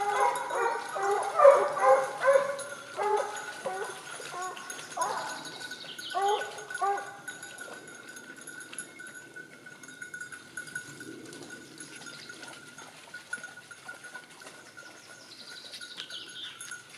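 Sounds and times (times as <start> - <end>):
goat bells ringing faintly: 0.0 - 16.9.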